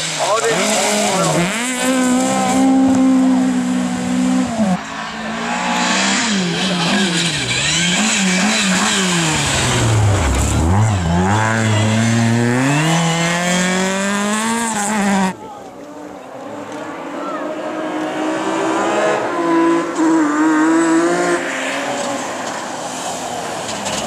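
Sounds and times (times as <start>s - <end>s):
rally car engines revving: 0.0s - 24.0s.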